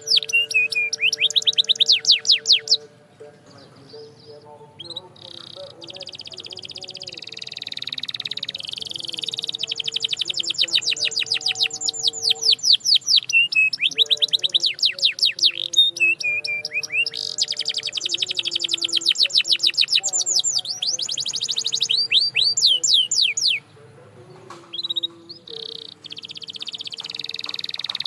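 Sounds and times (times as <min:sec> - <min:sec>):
canary trilling: 0:00.0 - 0:28.0.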